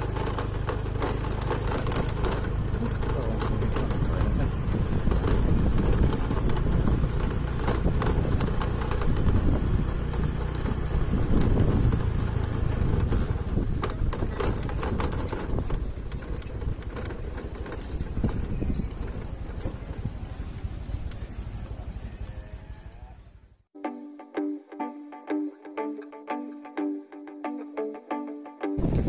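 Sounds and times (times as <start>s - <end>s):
motor scooter engine running: 0.0s - 23.4s, 28.8s - 29.0s.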